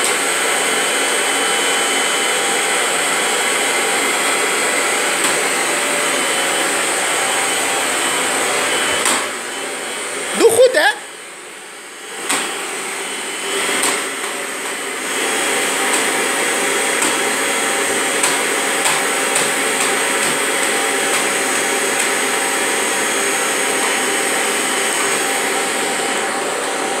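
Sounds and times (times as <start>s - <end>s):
vacuum cleaner whining: 0.0s - 27.0s.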